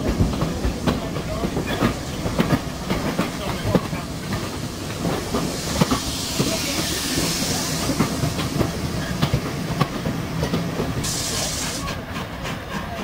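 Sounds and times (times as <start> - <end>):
steam hissing: 1.9 - 13.0.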